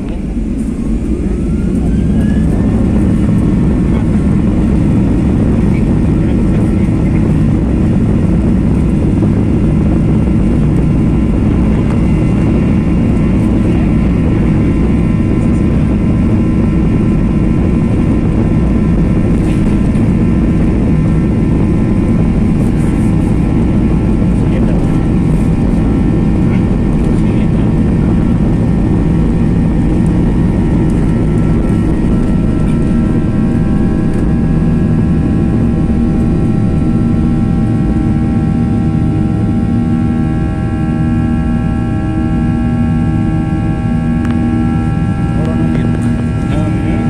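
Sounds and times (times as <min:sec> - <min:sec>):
jet engine noise in cabin: 0:00.0 - 0:47.0
steady whining tones: 0:00.0 - 0:47.0.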